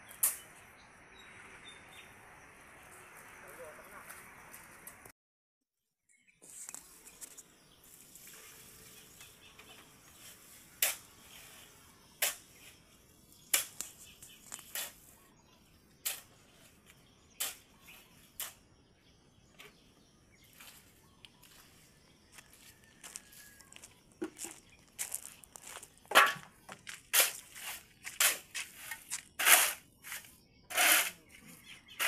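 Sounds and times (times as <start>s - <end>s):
faint outdoor background: 0.0s - 32.0s.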